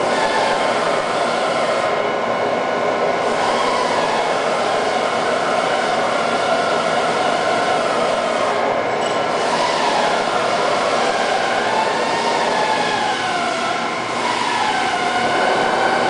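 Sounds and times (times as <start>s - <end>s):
boring mill humming and hissing: 0.0s - 16.0s
machine whining tones: 0.0s - 16.0s.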